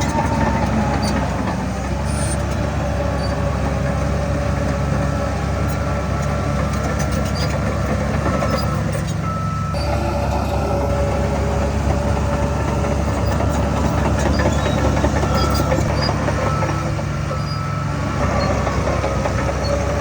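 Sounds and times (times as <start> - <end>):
faint metallic squeaks and clicks: 0.0 - 1.4, 2.0 - 3.5, 5.6 - 20.0
heavy diesel machinery running: 0.0 - 20.0.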